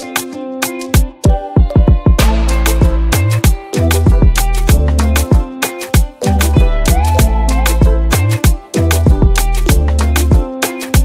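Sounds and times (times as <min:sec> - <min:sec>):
regular percussion: 0:00.0 - 0:11.0.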